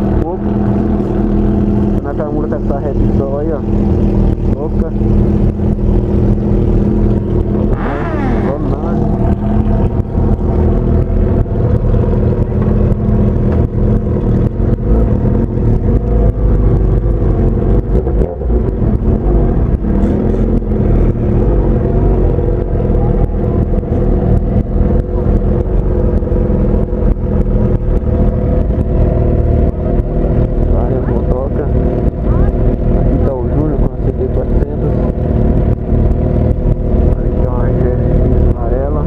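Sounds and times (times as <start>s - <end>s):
motorcycle engine low revs: 0.0s - 39.0s.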